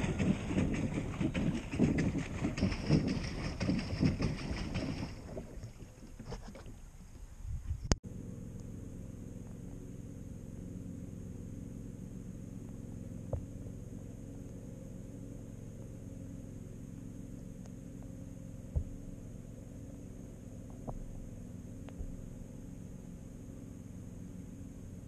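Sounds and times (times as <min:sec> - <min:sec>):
underwater pond hum: 0:00.0 - 0:25.0.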